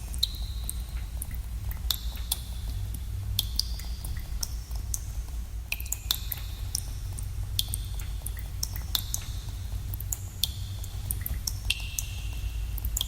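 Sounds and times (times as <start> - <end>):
water drops plinking in cave: 0.0 - 13.0.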